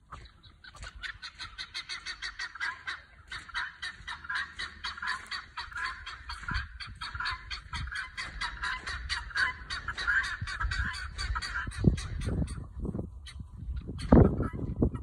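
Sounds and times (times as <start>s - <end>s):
guinea fowl alarm calls: 0.0s - 15.0s.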